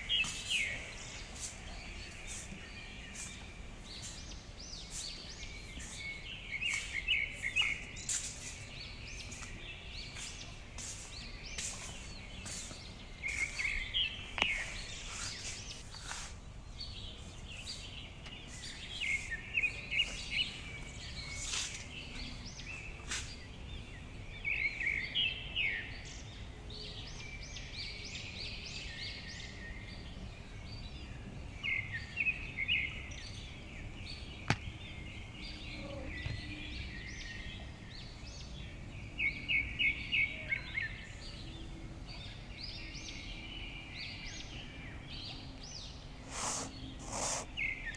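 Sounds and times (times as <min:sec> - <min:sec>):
small birds chirping: 0:00.0 - 0:47.9
steady background noise: 0:00.0 - 0:47.9.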